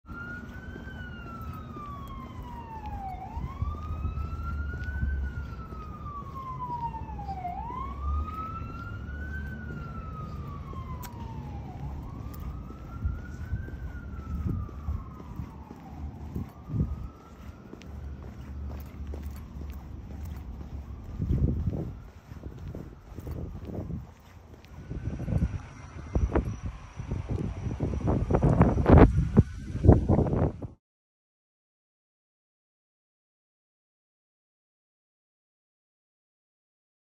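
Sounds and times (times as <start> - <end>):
siren wailing: 0.1 - 30.8.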